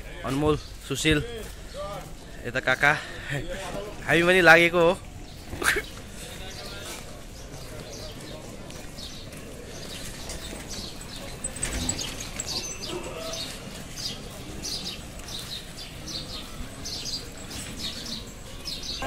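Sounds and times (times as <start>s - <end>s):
faint voices murmuring: 0.0s - 19.0s
small birds chirping: 0.2s - 19.0s.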